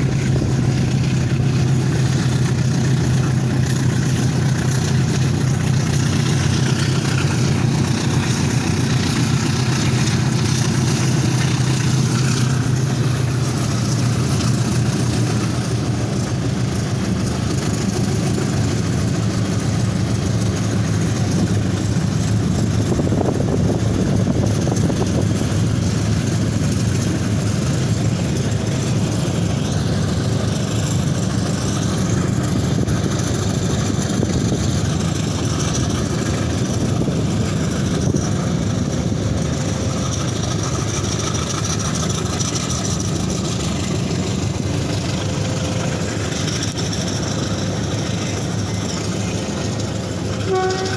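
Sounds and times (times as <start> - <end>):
locomotive engines droning: 0.0 - 50.9.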